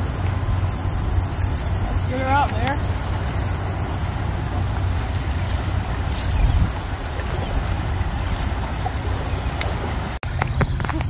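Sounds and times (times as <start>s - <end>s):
high insect trill: 0.0s - 10.2s
wind rushing over microphone: 0.0s - 11.0s.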